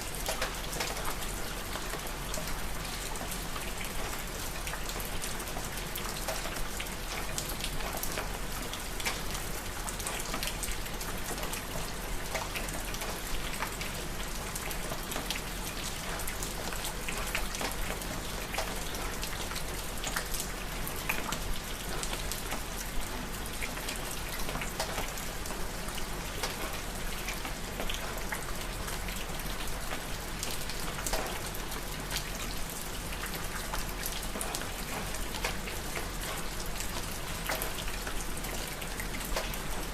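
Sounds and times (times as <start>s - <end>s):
rain falling: 0.0s - 39.9s
raindrops pattering on a surface: 0.0s - 39.9s.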